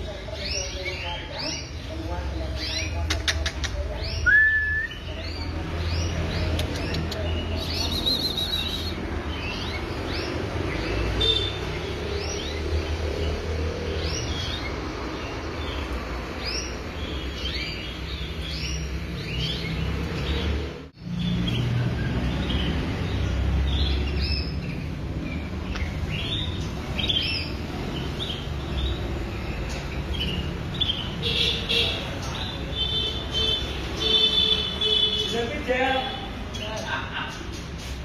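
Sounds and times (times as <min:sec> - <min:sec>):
canaries chirping: 0:00.0 - 0:38.0.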